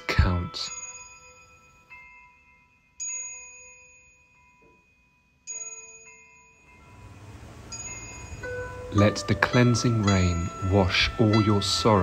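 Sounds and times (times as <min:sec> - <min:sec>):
soft chime notes: 0:00.0 - 0:12.0.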